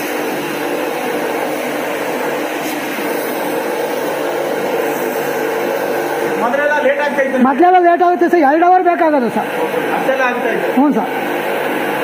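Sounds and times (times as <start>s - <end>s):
pressure washer pump humming: 0.0s - 12.0s
water jet hissing on floor: 0.0s - 12.0s.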